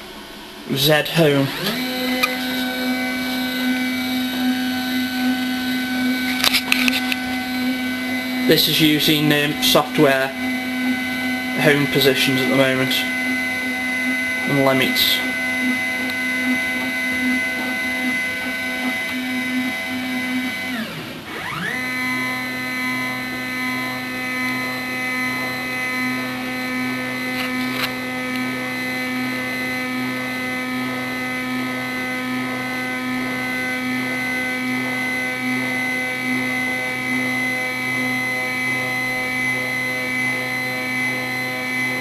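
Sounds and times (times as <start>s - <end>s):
stepper motor whine: 0.0s - 42.0s.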